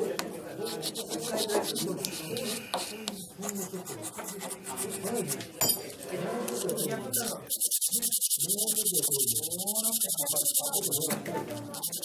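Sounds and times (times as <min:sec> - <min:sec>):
hand file rasping on bamboo: 0:00.6 - 0:05.4, 0:06.6 - 0:12.0.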